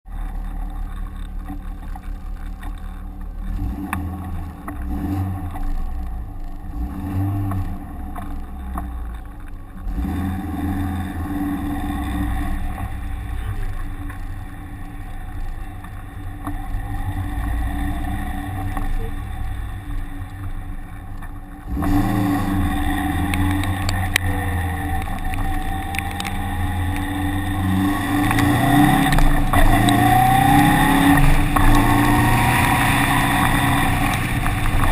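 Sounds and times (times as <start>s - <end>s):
vehicle engine revving: 0.1s - 34.9s.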